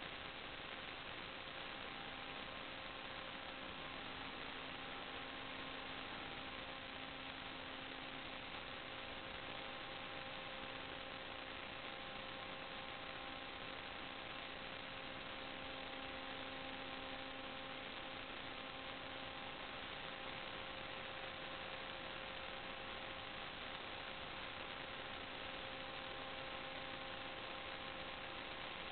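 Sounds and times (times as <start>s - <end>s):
electrical hum: 0.0s - 28.9s
steady hiss: 0.0s - 28.9s.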